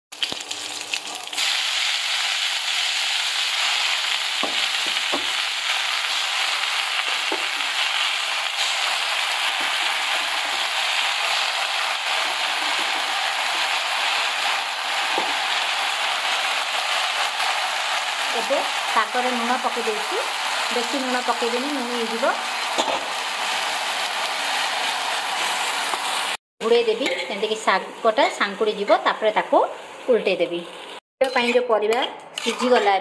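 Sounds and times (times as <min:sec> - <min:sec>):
leafy greens sizzling in oil: 0:00.1 - 0:26.8
chillies and seeds frying in oil: 0:00.1 - 0:31.5.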